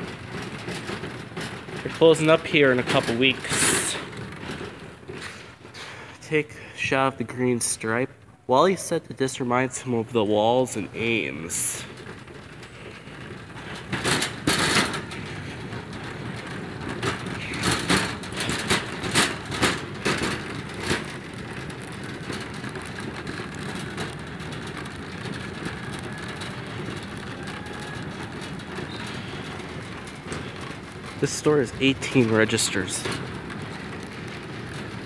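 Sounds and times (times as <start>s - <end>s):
cart clattering and knocking: 0.0s - 8.2s, 8.8s - 35.0s
shopping cart wheels rumbling: 0.0s - 35.0s.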